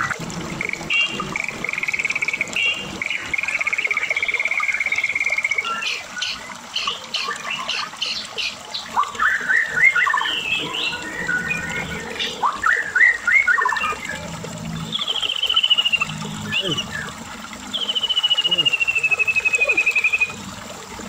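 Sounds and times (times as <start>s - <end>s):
bird singing varied song: 1.8s - 14.2s, 14.8s - 20.4s.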